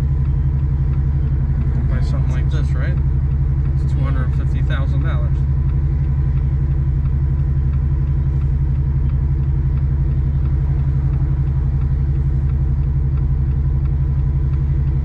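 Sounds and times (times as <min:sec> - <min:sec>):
car engine and road noise drone: 0:00.0 - 0:15.0.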